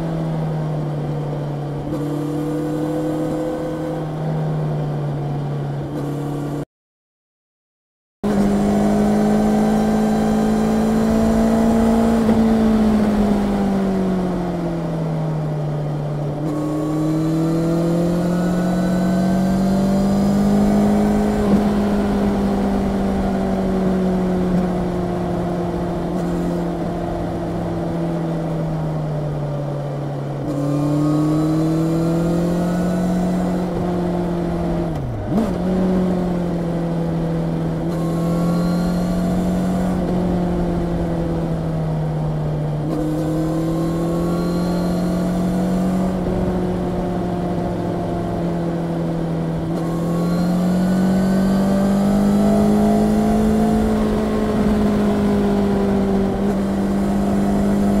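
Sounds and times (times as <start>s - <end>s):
motorcycle engine revving: 1.6s - 4.6s, 8.2s - 58.0s.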